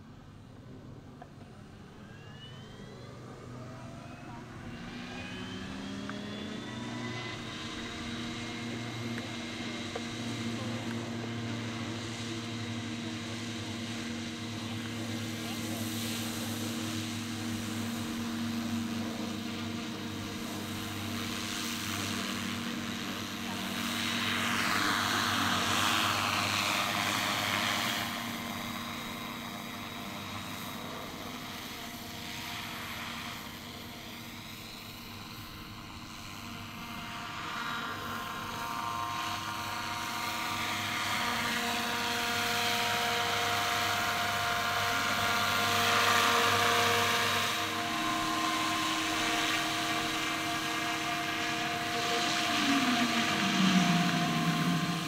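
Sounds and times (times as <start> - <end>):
model helicopter rotor running: 0.0 - 55.0.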